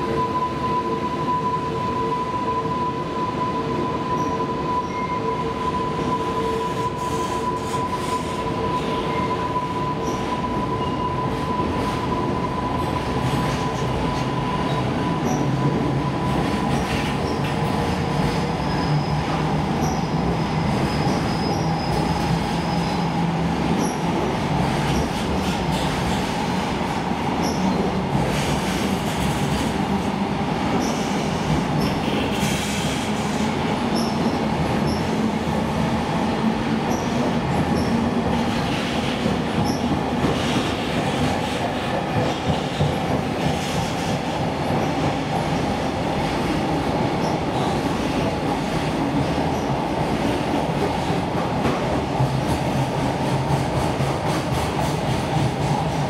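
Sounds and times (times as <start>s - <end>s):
train wheels rumbling on rail: 3.1s - 56.0s.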